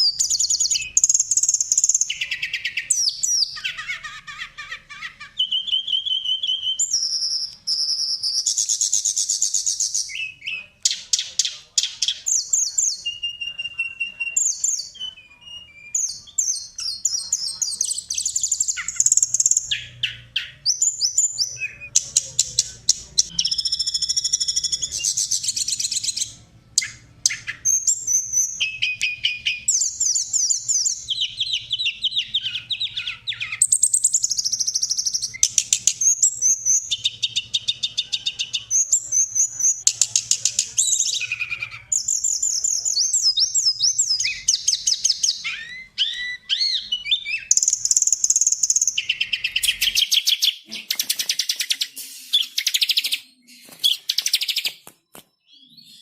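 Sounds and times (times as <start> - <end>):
songbird trills and chirping: 0.0 - 56.0.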